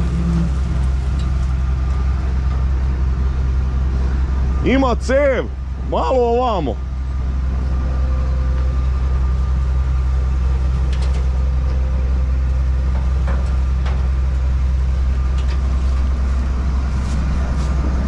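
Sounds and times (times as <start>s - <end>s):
combine harvester diesel engine: 0.0s - 18.0s.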